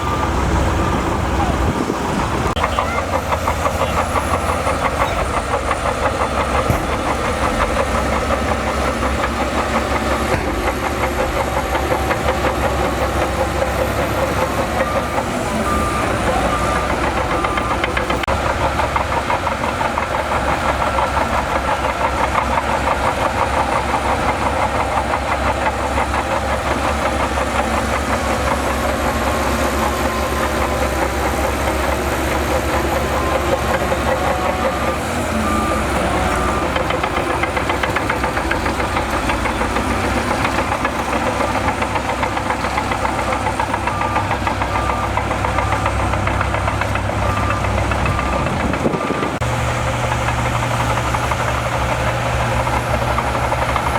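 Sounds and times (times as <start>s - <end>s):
diesel machinery engine running: 0.0s - 53.9s
reversing alarm beeping: 2.5s - 53.9s.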